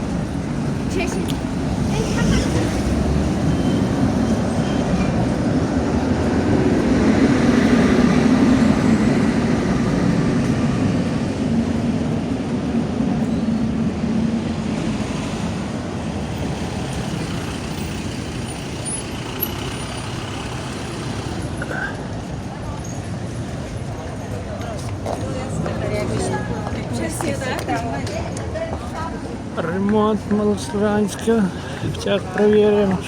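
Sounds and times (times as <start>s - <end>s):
heavy road vehicle rumbling: 0.0s - 33.0s.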